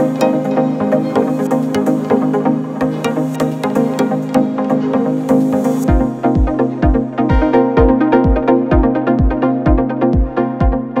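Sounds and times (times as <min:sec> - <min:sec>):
electronic music with synth and beat: 0:00.0 - 0:11.0.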